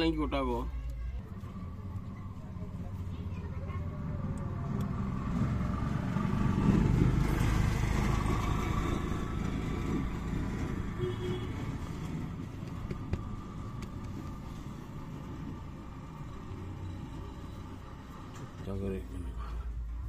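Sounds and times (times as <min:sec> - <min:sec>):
vehicle passing by: 0:01.5 - 0:20.0.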